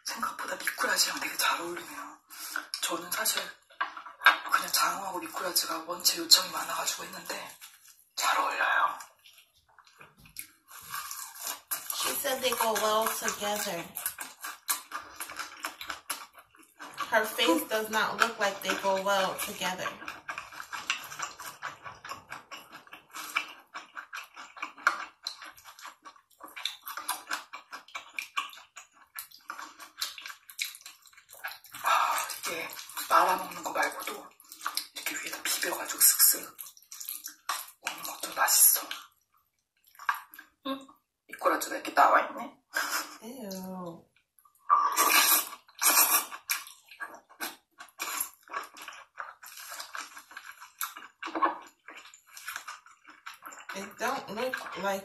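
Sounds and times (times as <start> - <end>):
wet food stirred with chopsticks: 0.0 - 39.1, 45.0 - 55.0
wet clicking and crackling: 2.5 - 8.0, 9.0 - 40.6, 43.4 - 55.0.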